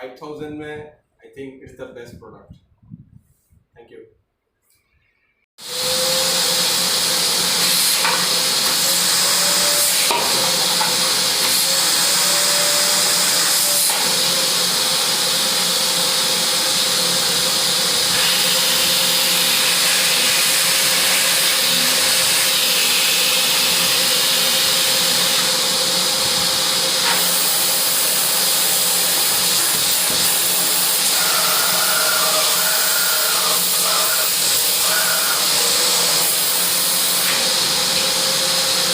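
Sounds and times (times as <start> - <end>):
vacuum cleaner running: 5.6 - 38.9.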